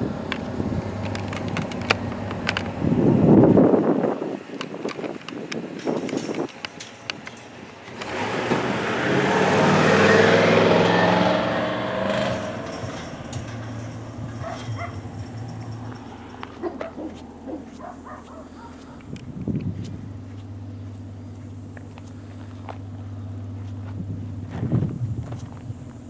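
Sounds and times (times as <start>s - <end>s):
motor vehicle passing: 0.0s - 4.6s, 5.4s - 26.0s.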